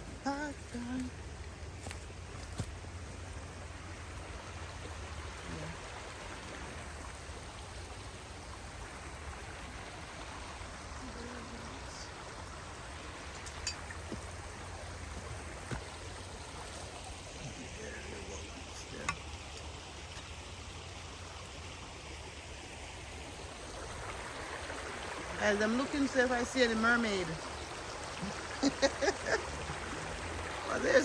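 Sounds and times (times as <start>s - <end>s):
stream water running: 0.0s - 31.0s.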